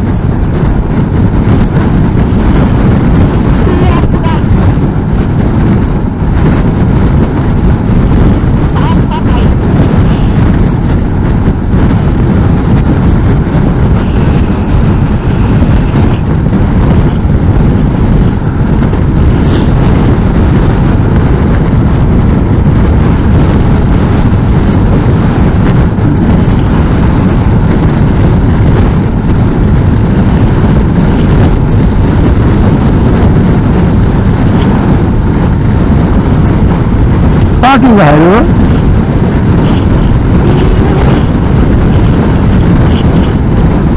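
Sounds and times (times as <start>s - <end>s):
motorcycle running: 0.0s - 43.9s
road noise: 0.0s - 43.9s
wind buffeting microphone: 0.0s - 43.9s.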